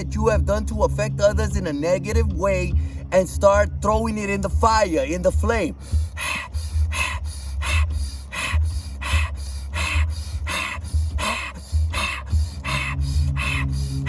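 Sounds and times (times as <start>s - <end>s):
fast hard rhythmic breathing: 0.0s - 14.0s.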